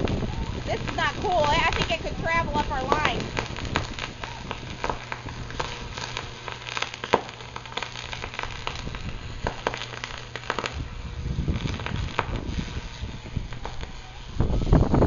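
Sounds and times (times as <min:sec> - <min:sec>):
sharp crackling and clicking: 0:00.0 - 0:14.2
low wind rumble on microphone: 0:00.0 - 0:15.0
strong wind gusting: 0:00.0 - 0:15.0.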